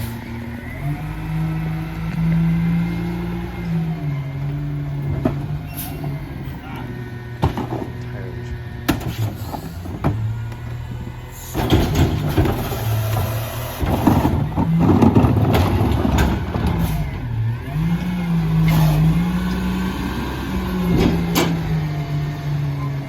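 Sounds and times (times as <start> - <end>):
garbage truck engine: 0.0 - 23.0.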